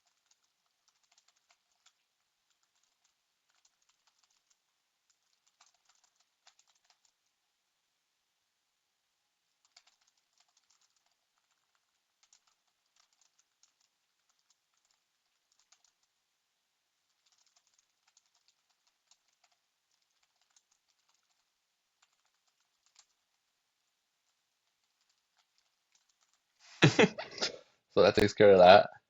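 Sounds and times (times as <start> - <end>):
faint typing on keyboard: 0.0 - 7.7, 9.4 - 27.0.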